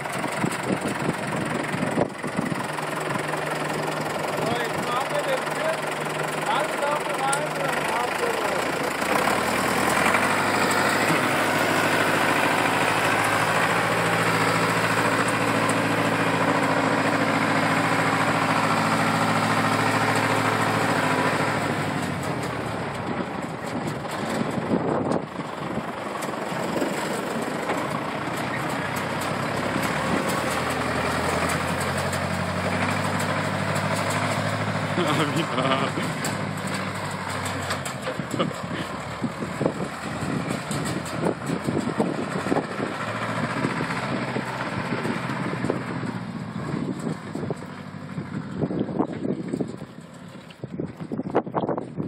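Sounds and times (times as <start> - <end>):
diesel tractor idling: 0.0 - 52.0
rough engine rumble: 0.0 - 52.0.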